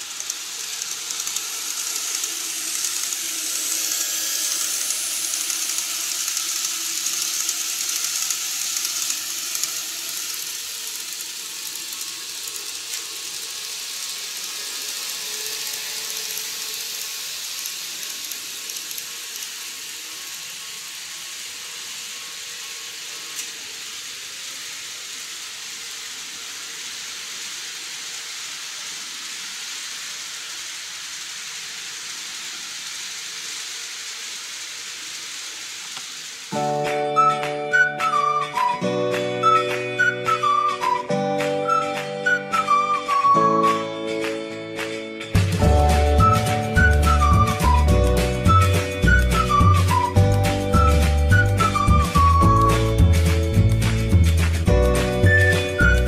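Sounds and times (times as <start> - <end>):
model train running on track: 0.0 - 56.0.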